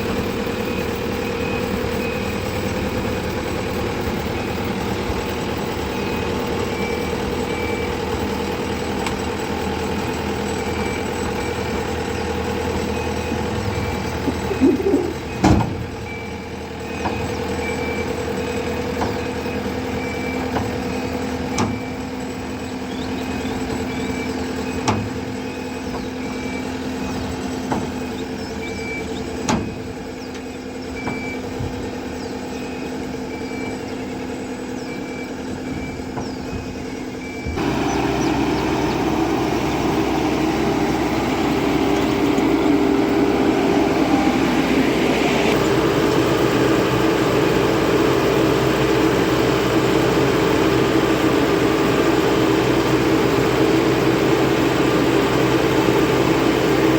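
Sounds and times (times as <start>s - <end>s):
farm machinery diesel engines running: 0.0s - 56.9s.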